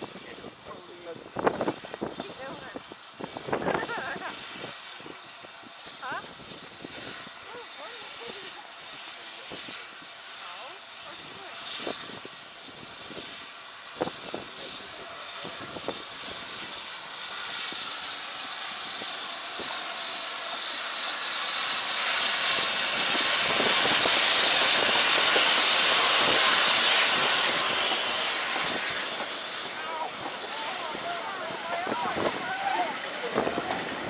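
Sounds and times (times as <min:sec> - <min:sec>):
steam hiss: 0:00.0 - 0:34.0
steam locomotive passing: 0:00.0 - 0:34.0.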